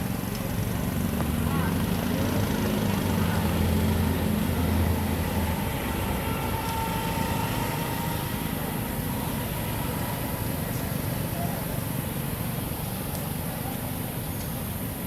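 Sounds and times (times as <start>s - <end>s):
engine humming low: 0.0s - 15.0s.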